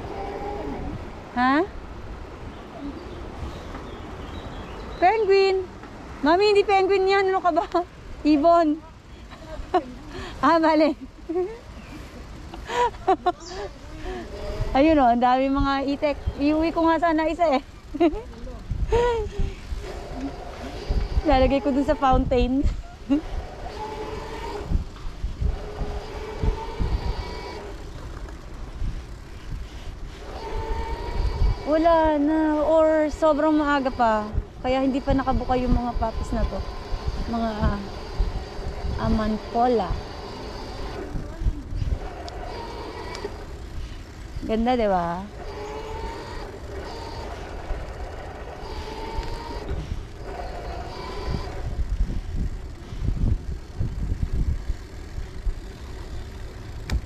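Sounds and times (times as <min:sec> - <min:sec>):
wind buffeting microphone: 0:00.0 - 0:09.7, 0:10.3 - 0:57.0
electric bike motor whine: 0:00.0 - 0:57.0.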